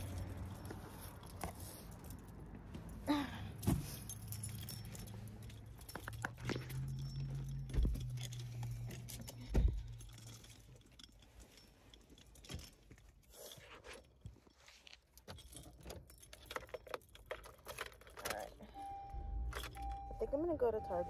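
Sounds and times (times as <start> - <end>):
keys jangling: 0.0 - 2.5, 3.6 - 20.1.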